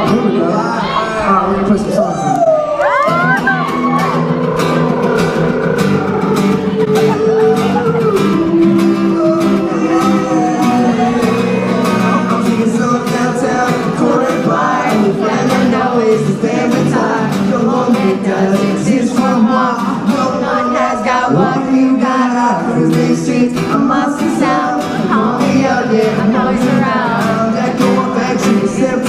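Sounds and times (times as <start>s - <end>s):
person singing: 0.0s - 29.0s
acoustic guitar strumming: 3.1s - 29.0s.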